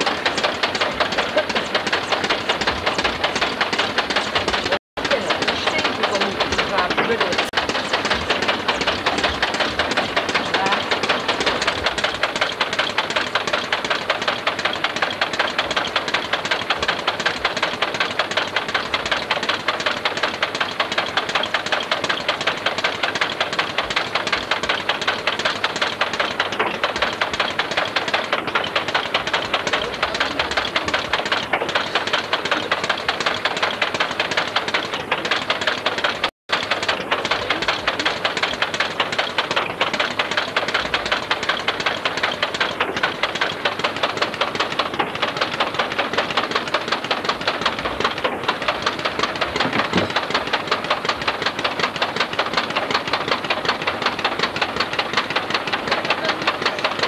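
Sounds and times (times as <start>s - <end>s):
small engine rattling: 0.0s - 57.0s.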